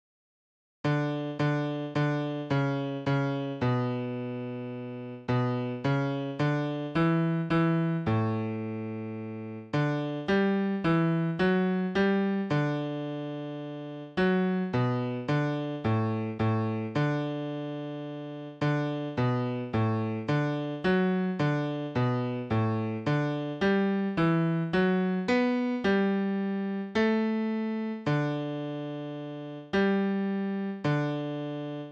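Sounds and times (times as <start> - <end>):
piano playing hymn chords: 0.9 - 31.9.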